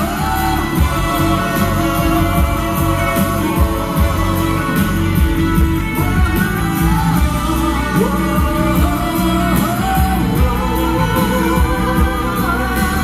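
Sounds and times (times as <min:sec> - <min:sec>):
person singing: 0:00.0 - 0:13.0
pop-rock band playing: 0:00.0 - 0:13.0
steady drum beat: 0:00.0 - 0:13.0.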